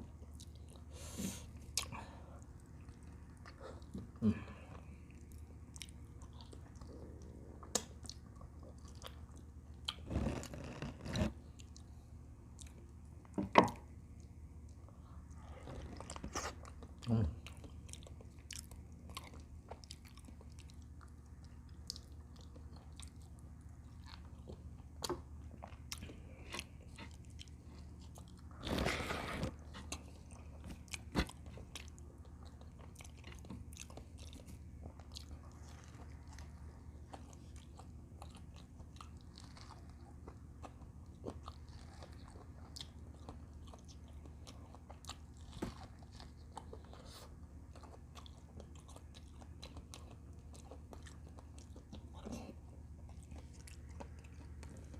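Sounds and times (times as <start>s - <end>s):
chewing with small clicks: 0.0s - 0.9s, 1.6s - 10.0s, 11.4s - 28.5s, 29.7s - 54.9s.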